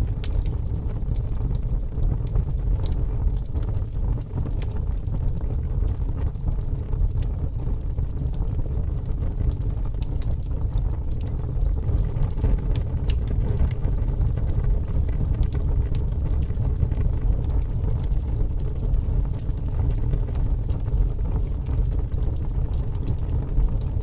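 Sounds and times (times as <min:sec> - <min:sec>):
fire burning with crackles: 0:00.0 - 0:24.0.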